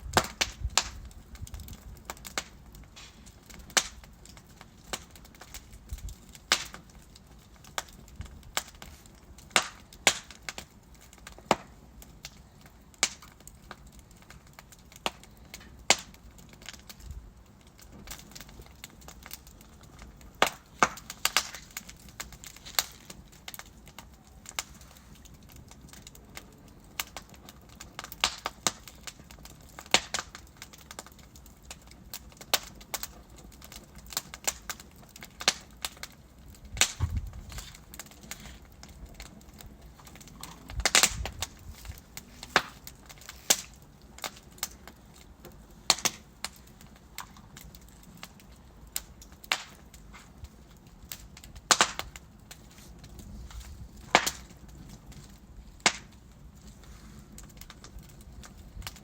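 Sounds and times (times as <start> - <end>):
deep fire pops: 0.0 - 59.0
faint fire hiss: 0.0 - 59.0
logs crackling in fireplace: 0.0 - 59.0.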